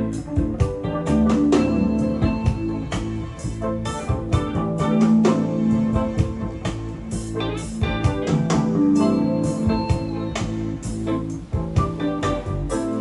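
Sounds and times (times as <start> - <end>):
distorted loud music with a beat: 0.0 - 13.0.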